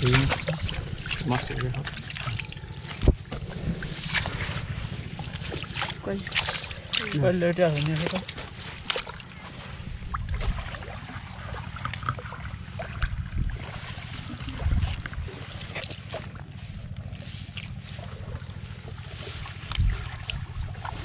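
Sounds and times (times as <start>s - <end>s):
hands sifting wet mud: 0.0s - 3.2s, 3.8s - 12.1s, 13.5s - 21.0s
steady low rumble: 0.0s - 21.0s.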